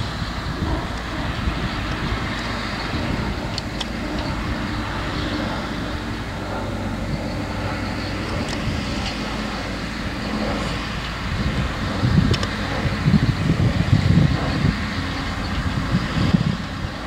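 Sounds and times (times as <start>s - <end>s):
uneven low rumble: 0.0s - 17.0s.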